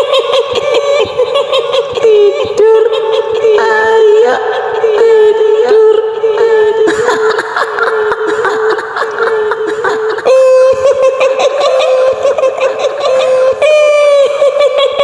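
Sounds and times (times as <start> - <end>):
woman giggling high-pitched: 0.0 - 15.0.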